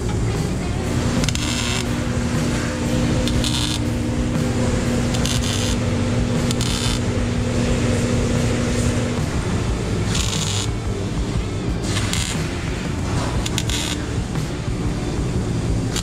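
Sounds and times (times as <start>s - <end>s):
steady low hum: 0.0s - 16.0s
welding arc crackling: 0.0s - 16.0s.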